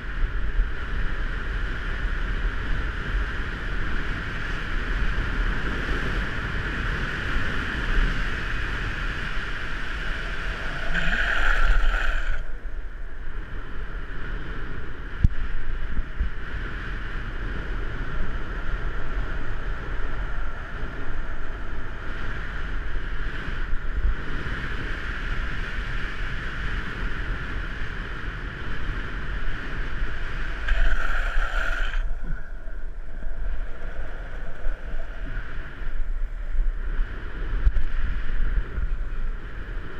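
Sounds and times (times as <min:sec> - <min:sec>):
wheels rolling on asphalt: 0:00.0 - 0:39.9
wind on microphone: 0:00.0 - 0:39.9.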